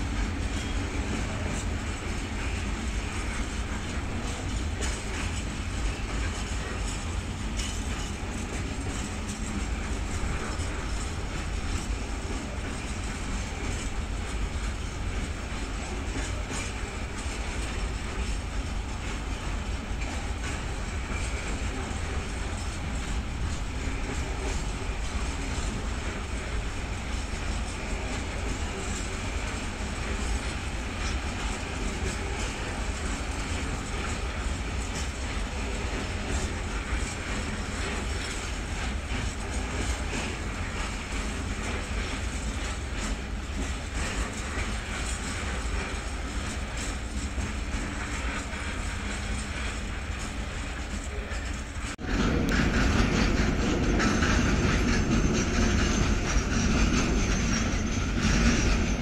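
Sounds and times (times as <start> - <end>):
freight train rumbling past: 0.0 - 59.0
wagon wheels clattering on track: 0.0 - 59.0.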